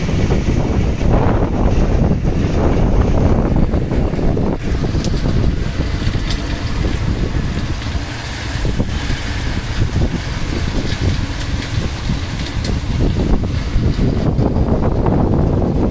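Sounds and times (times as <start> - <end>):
heavy rain hiss: 0.0 - 15.9
wind buffeting microphone: 0.0 - 15.9.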